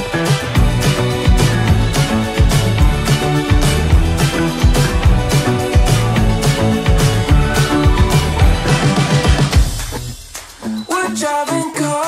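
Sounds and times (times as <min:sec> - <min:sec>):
bass line: 0:00.0 - 0:10.3
steady drum beat: 0:00.0 - 0:10.7.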